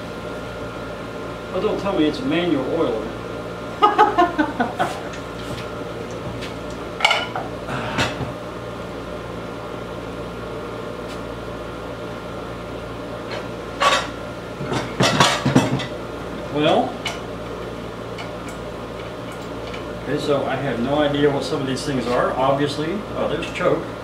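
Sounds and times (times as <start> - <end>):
air conditioner hum: 0.0 - 24.0.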